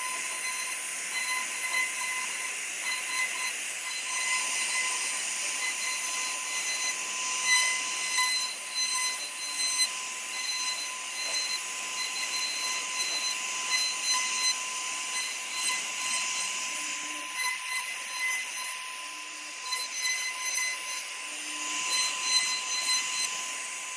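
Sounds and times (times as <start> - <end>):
hissing wood cutting noise: 0.0 - 23.9
router spindle high-pitched whine: 0.0 - 23.9.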